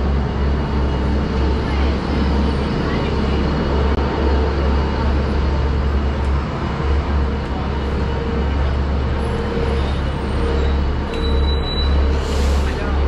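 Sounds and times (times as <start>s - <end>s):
heavy low rumble: 0.0s - 11.2s
city street traffic: 0.0s - 13.0s.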